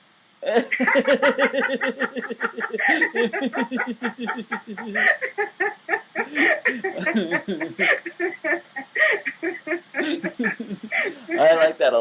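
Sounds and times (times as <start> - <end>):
people laughing rhythmically: 0.6 - 11.7.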